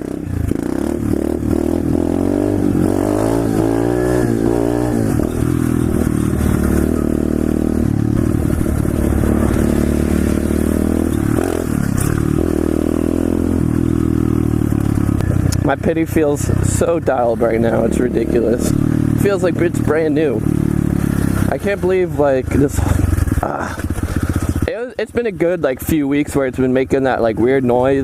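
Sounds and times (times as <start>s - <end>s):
motorbike engine revving: 0.0s - 25.6s.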